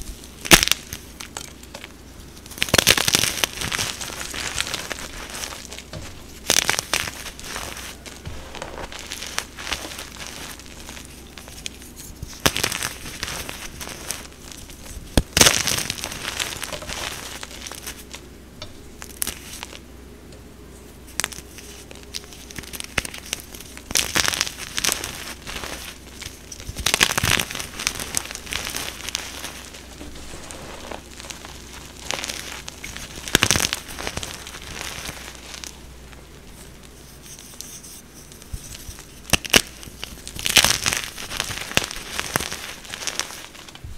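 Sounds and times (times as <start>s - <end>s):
chalk blocks crunching: 0.0s - 18.3s, 19.0s - 19.9s, 21.1s - 43.8s.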